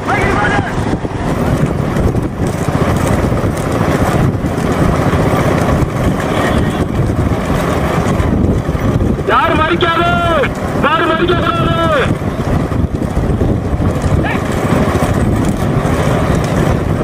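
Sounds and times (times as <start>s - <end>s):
vehicle engine and road noise: 0.0s - 17.0s
wind on microphone: 0.0s - 17.0s.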